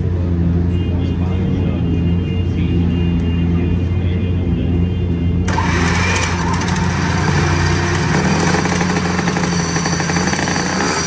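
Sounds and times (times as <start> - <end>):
two-stroke engine idling: 0.1 - 11.0.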